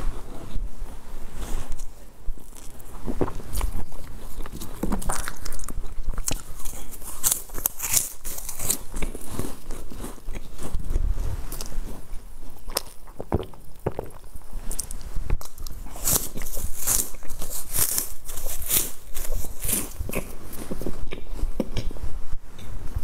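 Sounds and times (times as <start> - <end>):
person chewing crunchy sticks: 1.8 - 21.9.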